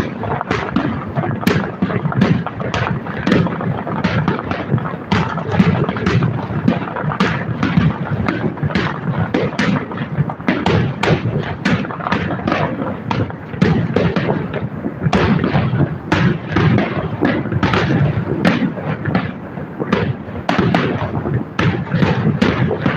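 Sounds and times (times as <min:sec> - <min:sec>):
fireworks bursting: 0:00.0 - 0:22.9.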